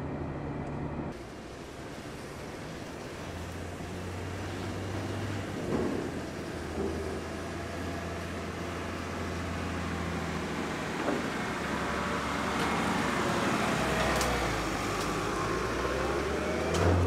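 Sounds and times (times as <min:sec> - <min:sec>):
car engine low hum: 0:00.0 - 0:17.0.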